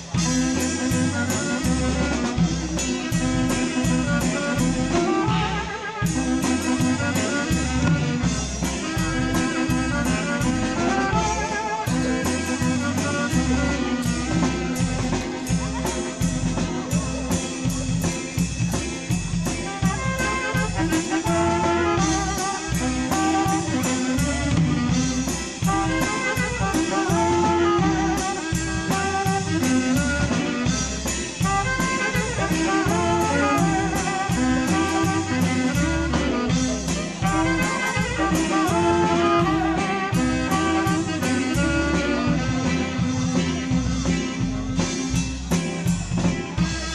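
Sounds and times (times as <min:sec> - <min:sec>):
band playing a tune: 0:00.0 - 0:46.9
steady drum beat: 0:00.0 - 0:46.9.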